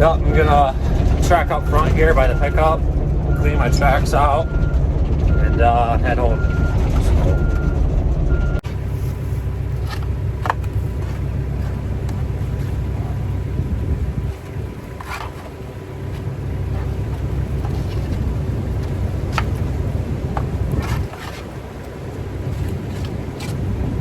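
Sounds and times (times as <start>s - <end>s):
diesel engine low rumble: 0.0s - 24.0s.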